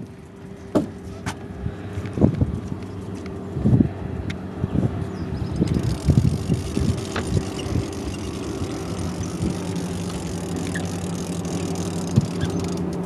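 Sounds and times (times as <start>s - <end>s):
boat motor humming: 0.0s - 13.0s
wind buffeting microphone: 0.8s - 13.0s.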